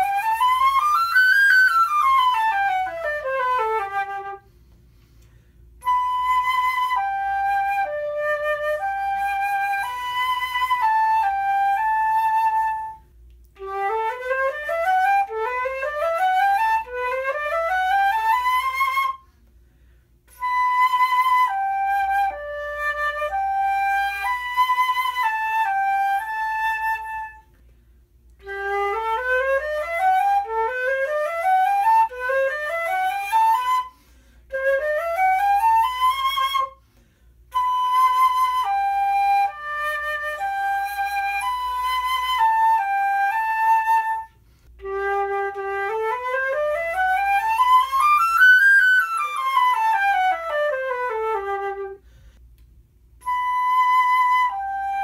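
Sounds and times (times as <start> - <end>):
solo flute playing: 0.0 - 52.4, 53.0 - 55.0.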